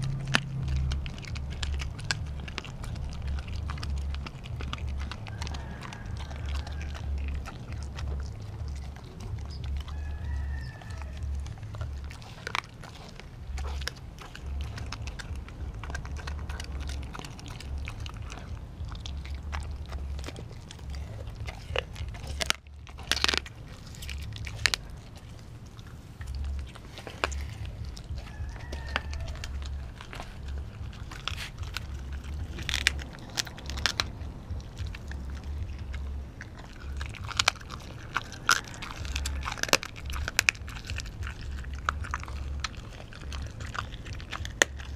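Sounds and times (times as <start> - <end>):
dog chewing meat on bone: 0.0 - 44.9
teeth clicking: 0.0 - 44.9.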